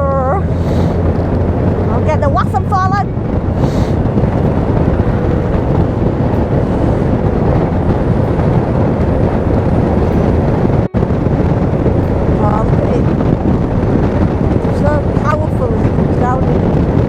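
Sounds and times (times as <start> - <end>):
motorcycle engine running: 0.0 - 17.0
road noise: 0.0 - 17.0
wind rushing over microphone: 0.0 - 17.0.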